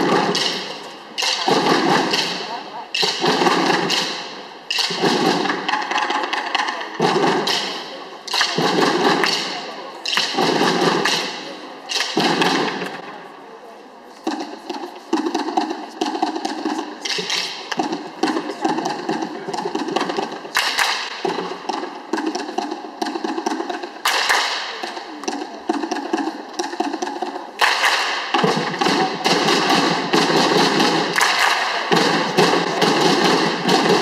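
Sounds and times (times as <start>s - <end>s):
drum corps rolls and hits: 0.0s - 13.2s, 14.2s - 34.0s.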